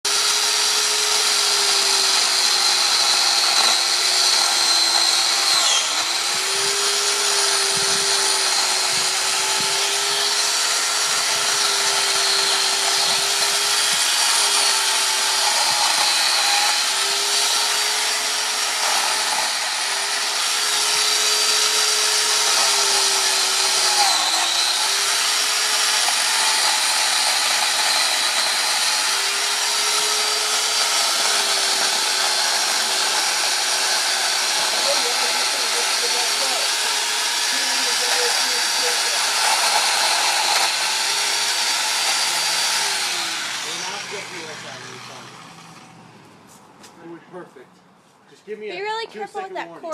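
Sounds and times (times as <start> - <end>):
electric chainsaw cutting wood: 0.0 - 46.2.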